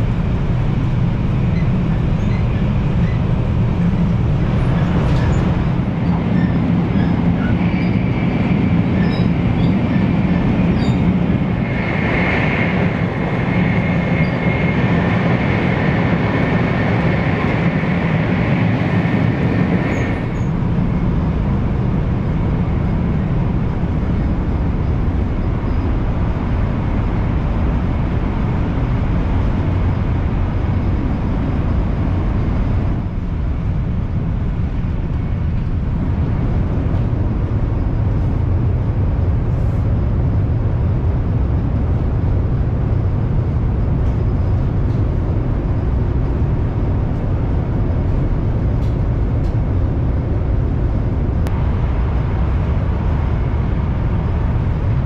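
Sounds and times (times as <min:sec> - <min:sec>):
train rumble inside passenger car: 0:00.0 - 0:55.0.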